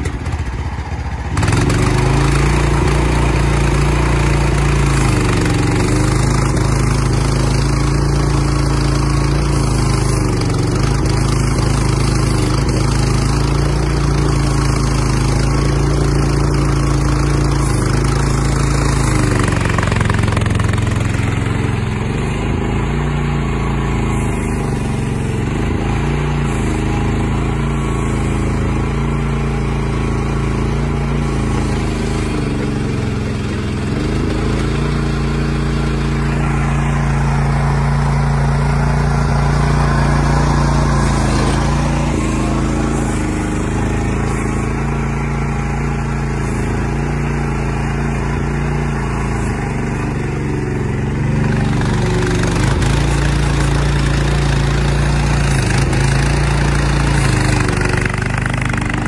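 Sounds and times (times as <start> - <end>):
excavator engine running: 0.0 - 59.0
hydraulics working: 0.0 - 59.0.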